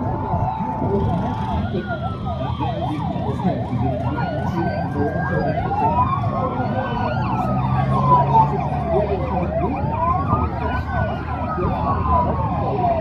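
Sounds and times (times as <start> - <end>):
sirens wailing: 0.0 - 13.0
sirens yelping: 0.0 - 13.0
vehicle engines running: 0.0 - 13.0.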